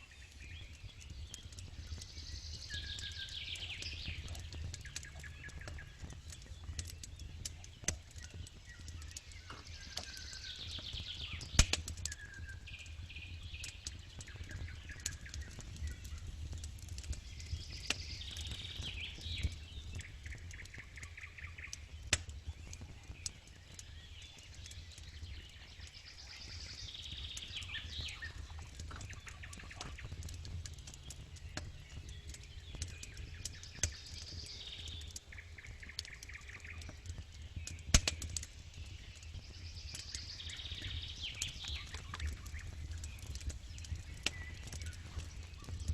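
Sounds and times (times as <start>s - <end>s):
birds chirping: 0.0s - 45.9s
campfire crackling: 0.0s - 45.9s.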